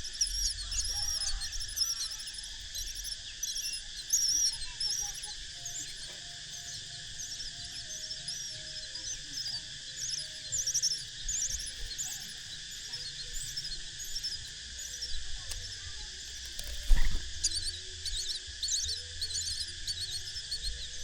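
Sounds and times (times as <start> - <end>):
nestling birds chirping: 0.0 - 21.0
steady high hum: 0.0 - 21.0.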